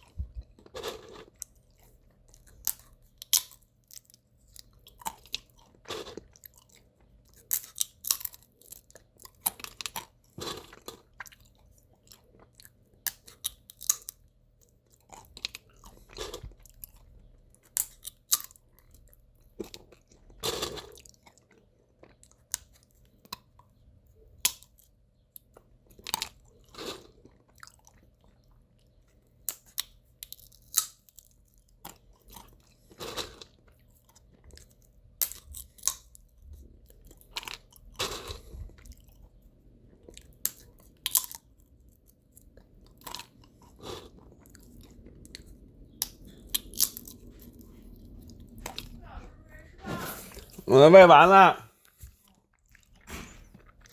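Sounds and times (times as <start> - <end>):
chewing crunch: 0.0 - 49.0, 50.3 - 53.9.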